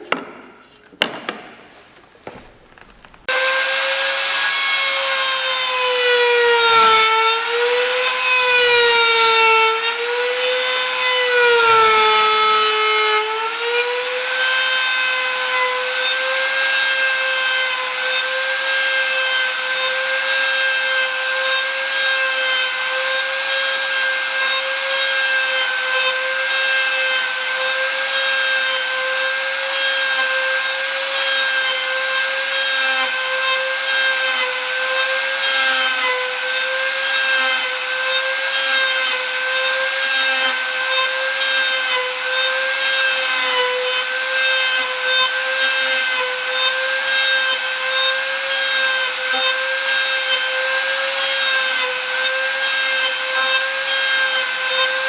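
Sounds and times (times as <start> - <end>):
power saw cutting wood: 3.2 - 55.0.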